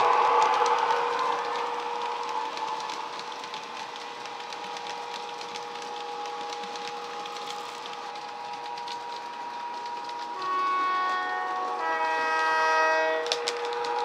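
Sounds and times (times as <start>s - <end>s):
electric traction whine tones: 0.0s - 12.6s
model train wheels clicking: 0.0s - 14.0s.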